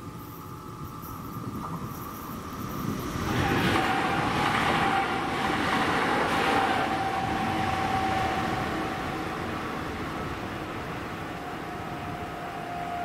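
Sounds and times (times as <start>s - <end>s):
steady whine: 0.0s - 13.0s
train wheels rumbling on rails: 0.0s - 13.0s.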